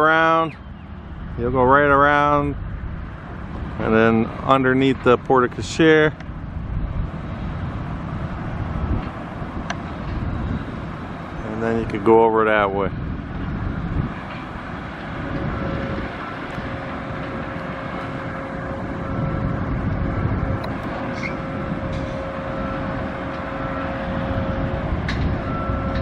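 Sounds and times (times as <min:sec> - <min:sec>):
vehicle engines rumbling: 0:00.0 - 0:26.0.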